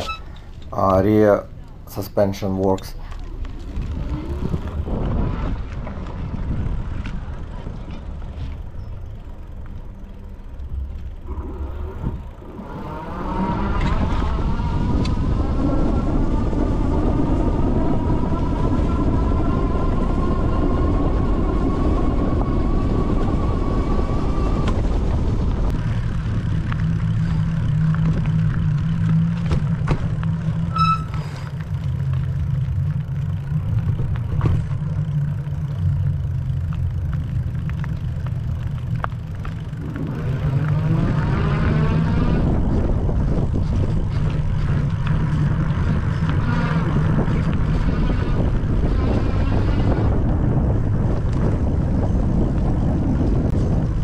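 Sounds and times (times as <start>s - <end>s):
tyre noise: 0.0s - 54.0s
wind rumble on microphone: 0.0s - 54.0s
electric bike motor whine: 3.1s - 54.0s.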